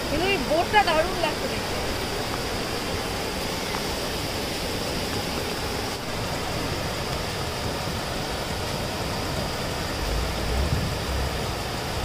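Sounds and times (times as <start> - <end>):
rain falling: 0.0 - 12.0
waterfall rushing: 0.0 - 12.0.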